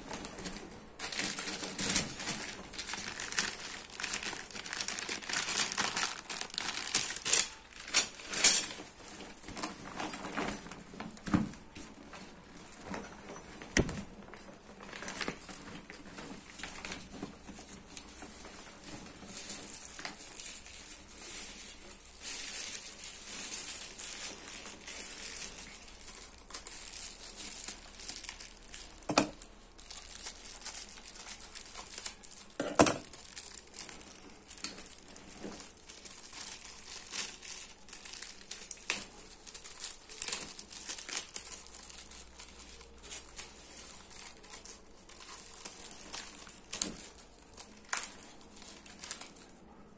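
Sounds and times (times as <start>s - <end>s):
plastic packaging crinkling: 0.0s - 49.9s.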